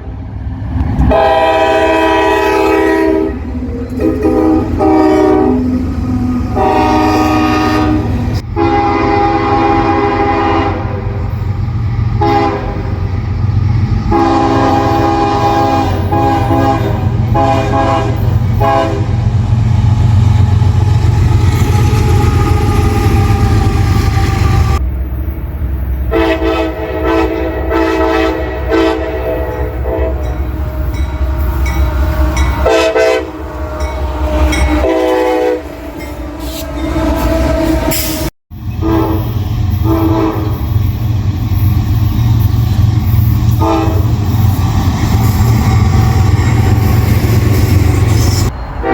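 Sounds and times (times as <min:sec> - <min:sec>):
train rumble: 0:00.0 - 0:48.9
train horn blasts: 0:01.0 - 0:05.8, 0:06.4 - 0:11.5, 0:12.1 - 0:13.1, 0:14.0 - 0:19.3, 0:20.2 - 0:24.8, 0:26.1 - 0:40.8, 0:43.4 - 0:44.6, 0:45.2 - 0:48.9.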